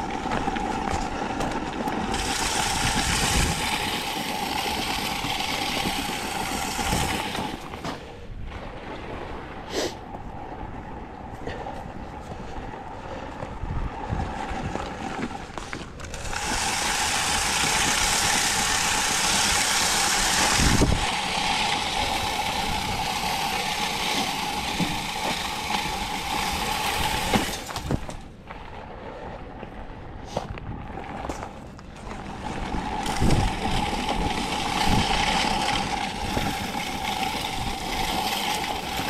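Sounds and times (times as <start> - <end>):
granular hiss of salt spreading: 0.0 - 8.1, 11.5 - 28.2, 32.1 - 39.0
steady running hum: 0.0 - 39.0.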